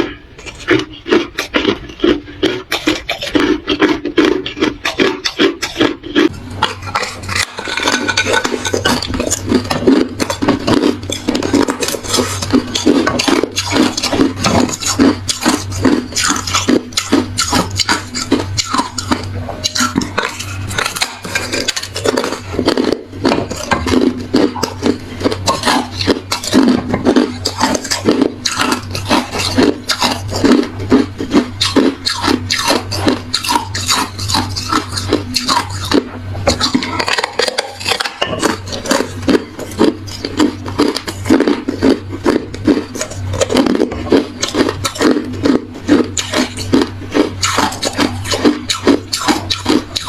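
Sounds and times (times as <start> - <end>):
ice crunching while chewed: 0.0 - 50.0.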